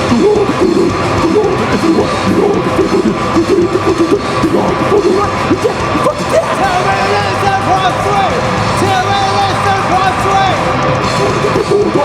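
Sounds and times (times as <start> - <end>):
crowd noise: 0.0 - 12.0
person singing: 0.0 - 12.0
rock band playing loudly: 0.0 - 12.0.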